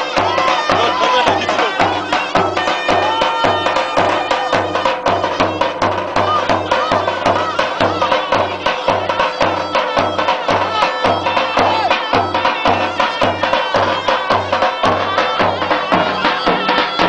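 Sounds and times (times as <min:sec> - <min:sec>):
bass drumbeat: 0:00.0 - 0:17.0
loud reed melody: 0:00.0 - 0:17.0.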